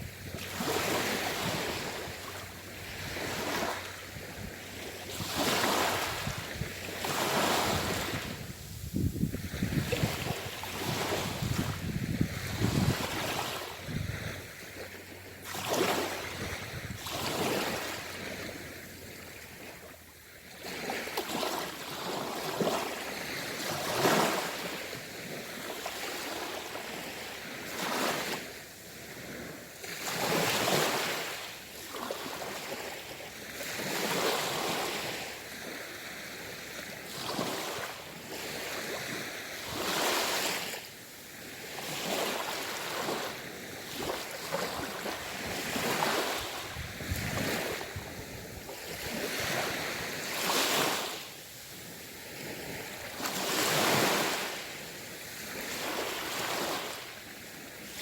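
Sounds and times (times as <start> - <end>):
sea waves breaking: 0.0 - 57.2.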